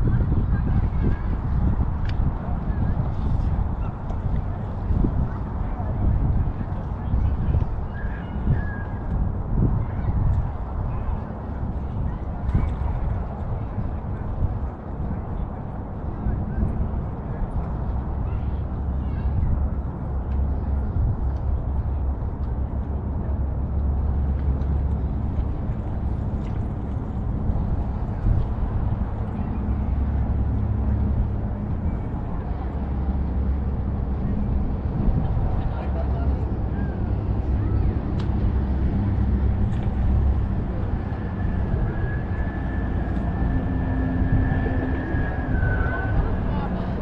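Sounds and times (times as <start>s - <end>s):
faint city background: 0.0s - 47.0s
wind buffeting microphone: 0.0s - 47.0s.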